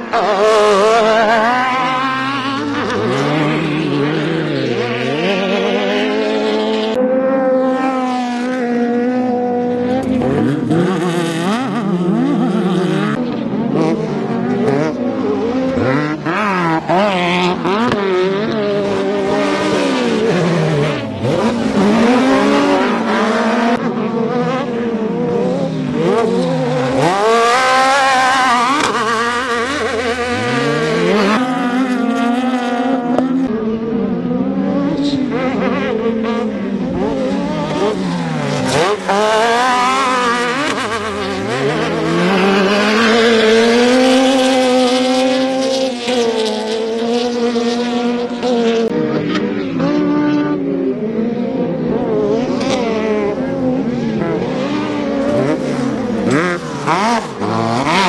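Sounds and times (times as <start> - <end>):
race truck engines revving: 0.0 - 58.0.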